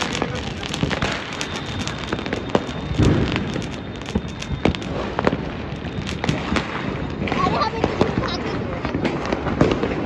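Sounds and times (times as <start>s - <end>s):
heavy firework boom: 0.0s - 8.1s
firecracker bangs: 0.0s - 8.2s
fireworks crackling: 0.0s - 10.0s.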